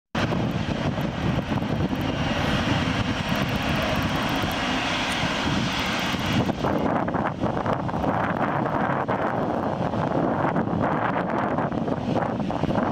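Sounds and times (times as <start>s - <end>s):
jet engines running at taxi power: 0.2s - 12.9s.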